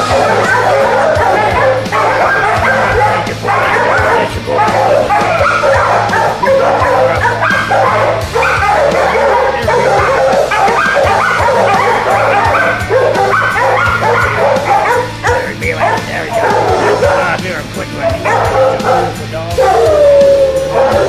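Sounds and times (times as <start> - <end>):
many dogs barking: 0.0 - 21.0.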